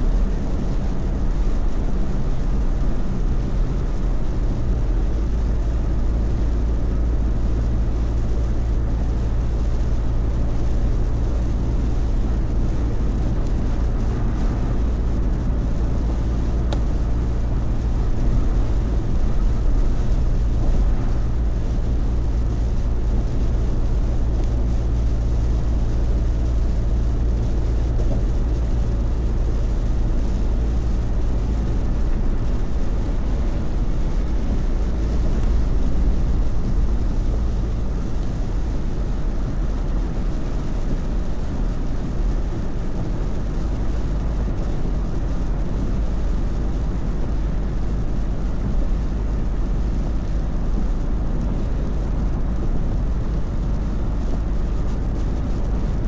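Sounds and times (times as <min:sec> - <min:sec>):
rain on car: 0:00.0 - 0:56.0
road and tyre rumble: 0:00.0 - 0:56.0.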